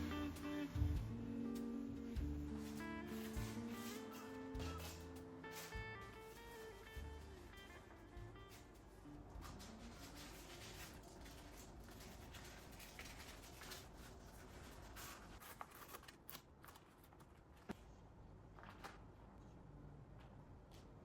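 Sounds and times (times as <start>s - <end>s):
rustling of leaves being folded: 0.0s - 19.5s.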